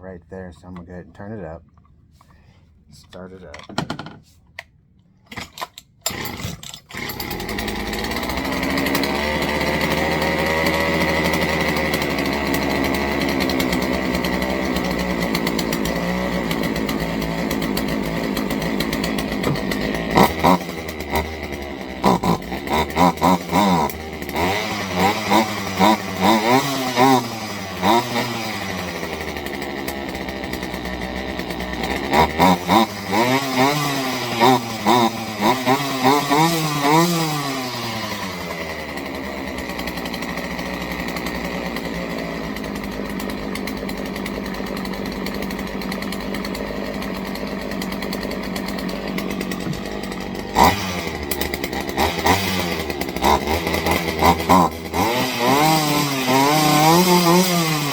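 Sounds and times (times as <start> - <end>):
chainsaw engine revving and idling: 5.5 - 57.9.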